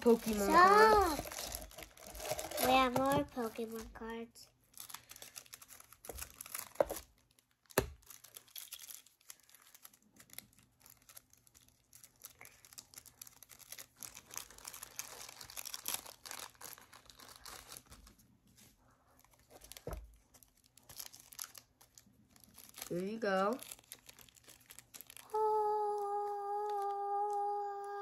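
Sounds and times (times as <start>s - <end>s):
plastic wrapping crinkling and tearing: 0.0s - 28.0s.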